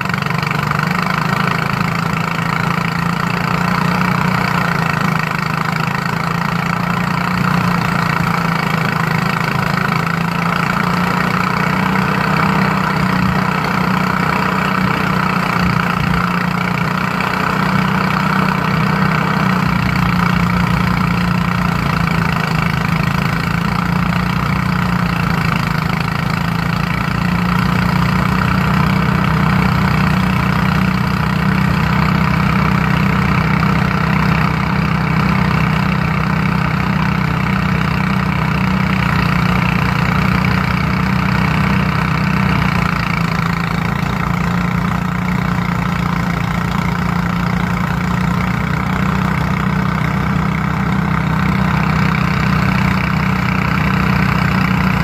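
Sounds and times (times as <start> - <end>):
threshing machine engine hum: 0.0 - 55.0.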